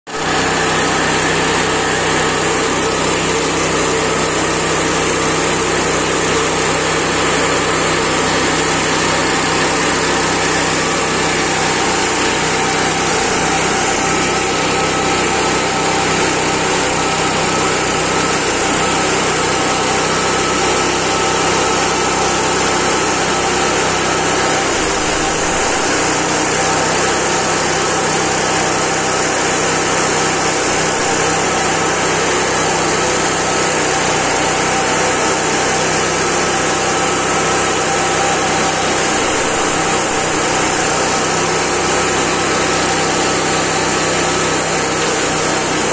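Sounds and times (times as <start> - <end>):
chipper shredder engine running: 0.1 - 45.9.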